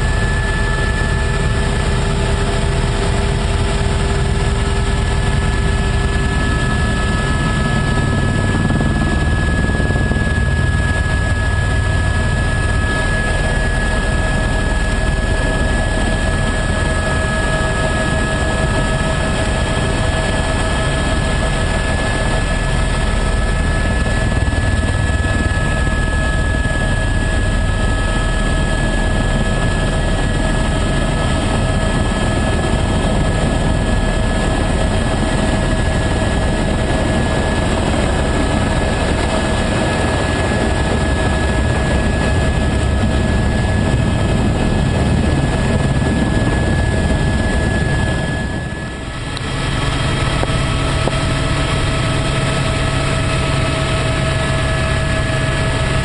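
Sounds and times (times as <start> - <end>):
helicopter rotor and engine rumble: 0.0 - 56.0
high whine: 0.0 - 56.0.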